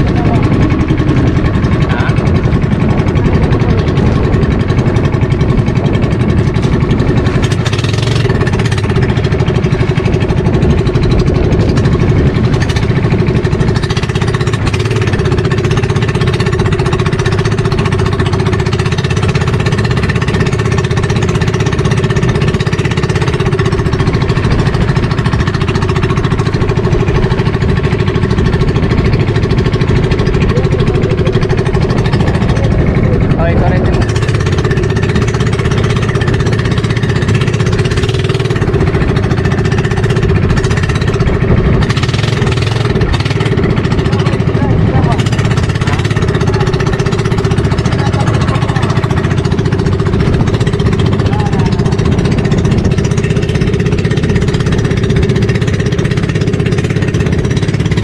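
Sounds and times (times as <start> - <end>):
boat engine droning: 0.0 - 58.0
water rushing along hull: 0.0 - 58.0.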